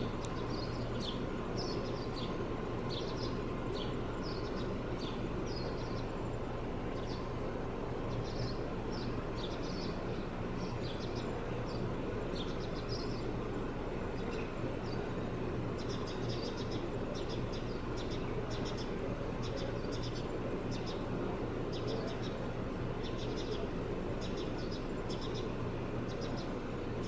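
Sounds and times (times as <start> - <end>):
low background hum: 0.0 - 27.0
small birds chirping: 0.0 - 27.0.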